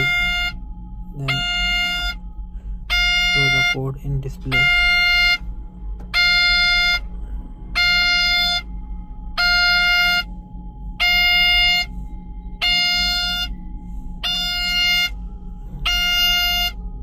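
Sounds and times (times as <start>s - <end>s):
warning buzzer beeping: 0.0s - 0.6s, 1.2s - 5.5s, 6.1s - 8.7s, 9.3s - 10.3s, 11.0s - 11.9s, 12.6s - 16.9s
low steady hum: 0.0s - 17.0s.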